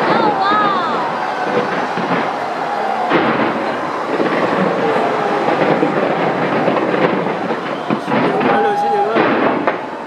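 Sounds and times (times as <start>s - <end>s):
crowd voices: 0.0s - 10.0s
fireworks bursting and crackling: 0.0s - 10.0s.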